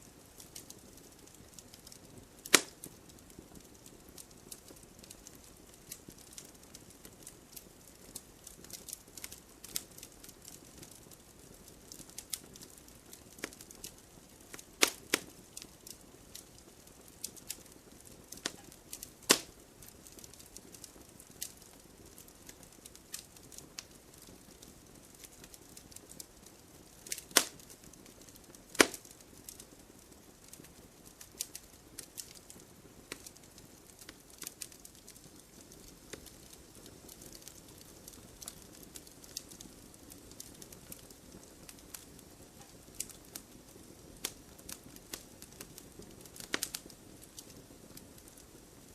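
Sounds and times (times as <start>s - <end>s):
faint steady hiss: 0.0s - 48.9s
fire crackling and popping: 0.0s - 48.9s.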